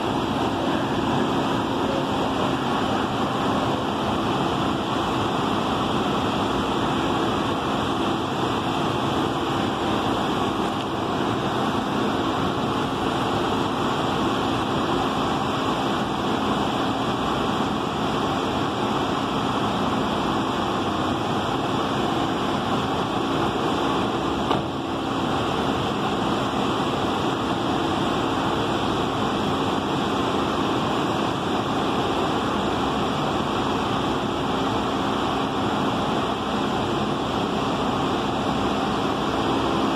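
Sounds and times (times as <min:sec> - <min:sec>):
bus engine idling: 0:00.0 - 0:39.9.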